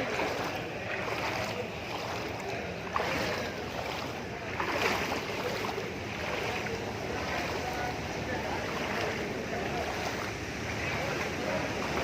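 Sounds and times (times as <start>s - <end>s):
bus engine noise: 0.0s - 12.0s
floodwater rushing and sloshing: 0.0s - 12.0s.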